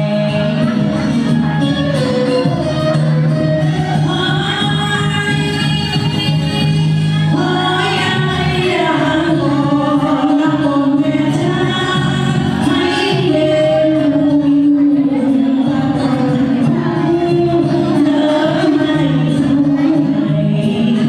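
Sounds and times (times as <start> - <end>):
woman singing: 0.0 - 2.7, 3.3 - 21.0
instrumental accompaniment: 0.0 - 21.0
music with sustained tones: 0.0 - 21.0.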